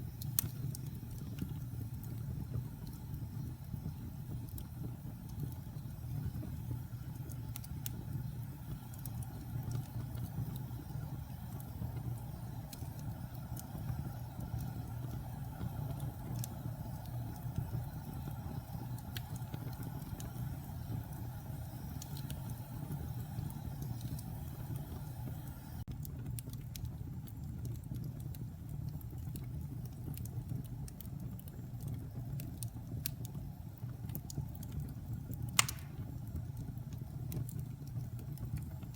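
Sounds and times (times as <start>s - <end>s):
log fire crackling: 0.0s - 38.9s.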